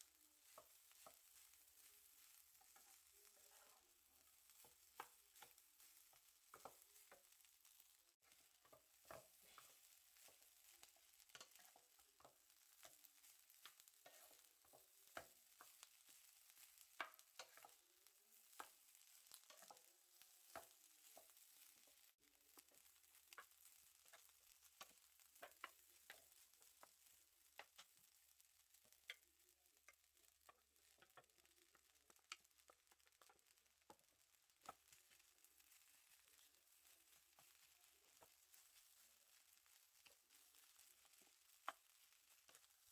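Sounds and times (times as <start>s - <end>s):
food sizzling: 0.0s - 42.9s
spatula scraping a pan: 0.1s - 28.0s, 34.6s - 42.8s.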